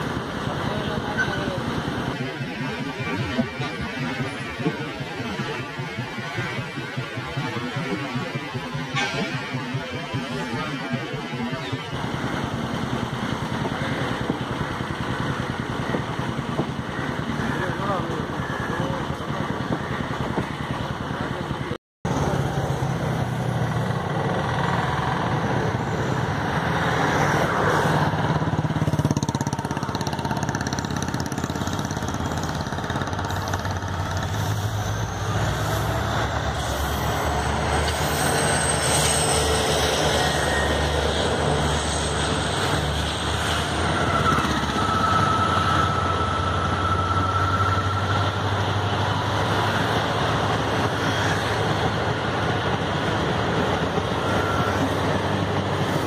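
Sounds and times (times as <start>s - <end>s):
diesel locomotive engine running: 0.0s - 56.0s
passenger coaches rolling past: 0.0s - 56.0s.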